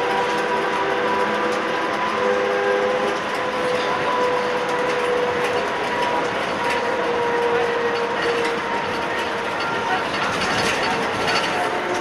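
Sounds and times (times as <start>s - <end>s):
trolleybus running: 0.0s - 12.0s.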